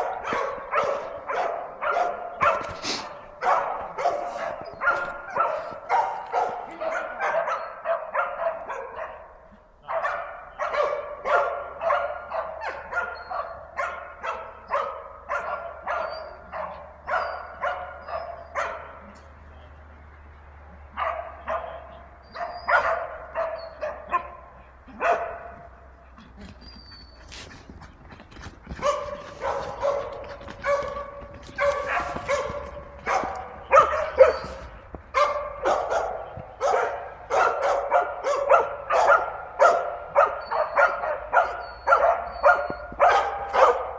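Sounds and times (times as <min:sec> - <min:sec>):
dogs barking rapidly: 0:00.0 - 0:19.2, 0:20.9 - 0:43.9.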